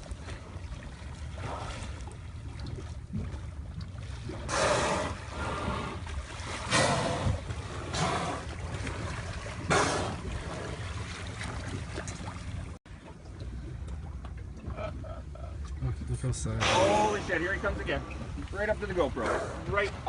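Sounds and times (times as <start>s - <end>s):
steady low rumble: 0.0s - 20.0s
water splashing against boat: 0.0s - 20.0s.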